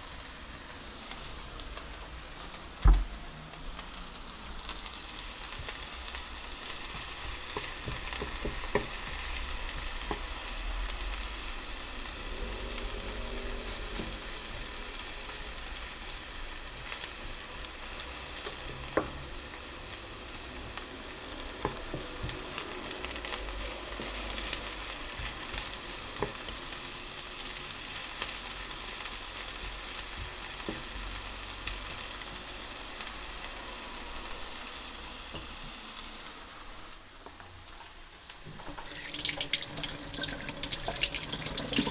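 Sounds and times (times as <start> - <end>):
food sizzling in frying pan: 0.0 - 41.9.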